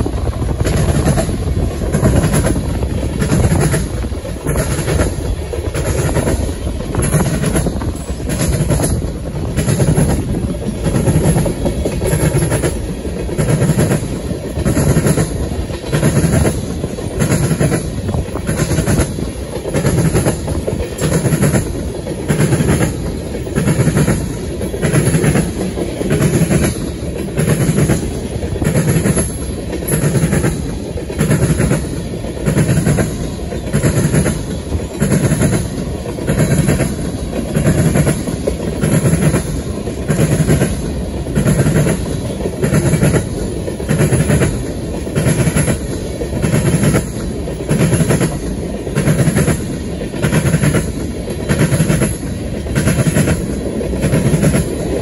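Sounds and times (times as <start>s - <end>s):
train rumble: 0.0s - 55.0s
train wheels clacking on track: 0.0s - 55.0s.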